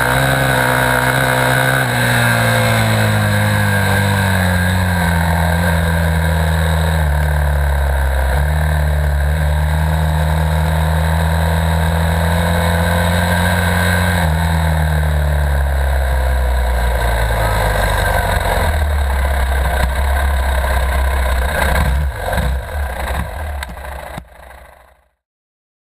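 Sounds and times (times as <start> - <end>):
dirt bike engine running: 0.0 - 25.2.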